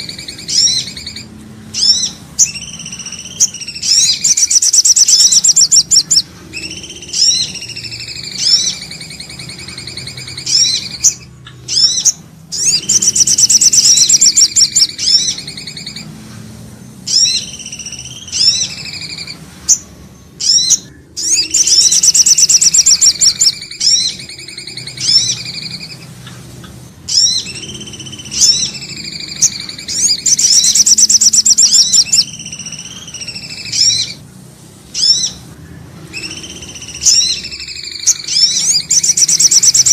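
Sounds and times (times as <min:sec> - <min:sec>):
whistled bird notes: 0:00.0 - 0:16.2, 0:16.8 - 0:34.3, 0:34.9 - 0:39.9
songbird trill: 0:00.0 - 0:39.9.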